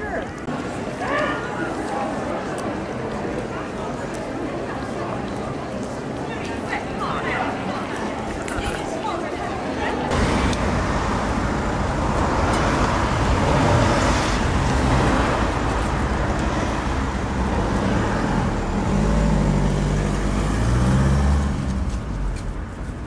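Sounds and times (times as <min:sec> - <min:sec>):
rush of traffic: 0:00.0 - 0:23.0.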